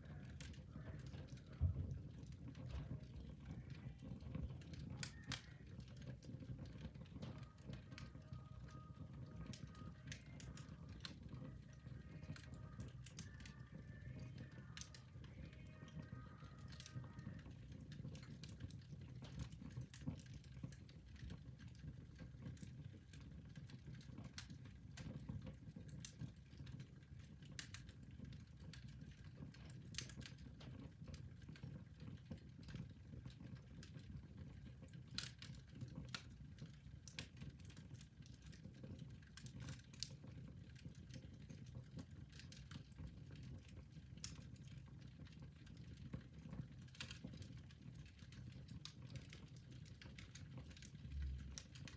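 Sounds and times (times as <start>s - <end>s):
fire crackling in fireplace: 0.0s - 51.9s.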